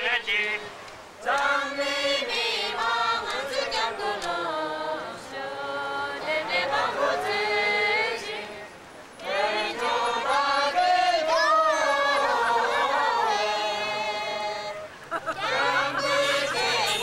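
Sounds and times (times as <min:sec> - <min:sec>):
crowd singing in unison: 0:00.2 - 0:17.0.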